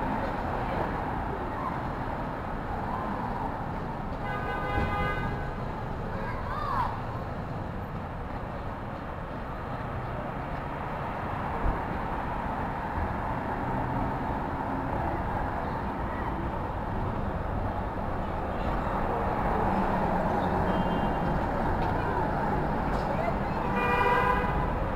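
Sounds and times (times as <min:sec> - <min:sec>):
traffic noise: 0:00.0 - 0:24.9.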